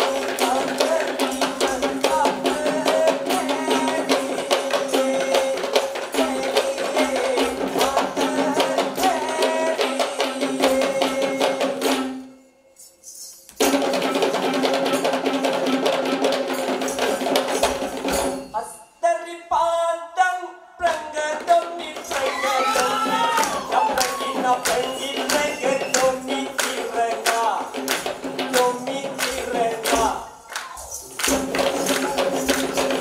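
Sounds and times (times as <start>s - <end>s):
hand drums beaten fast: 0.0s - 12.2s, 13.6s - 18.5s, 20.8s - 33.0s.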